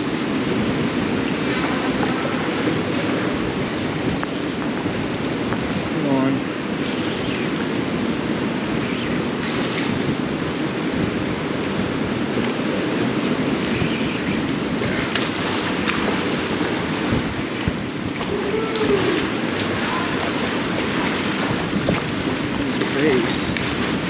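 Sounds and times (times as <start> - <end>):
ocean surf around pilings: 0.0 - 24.0
wind on microphone: 0.0 - 24.0.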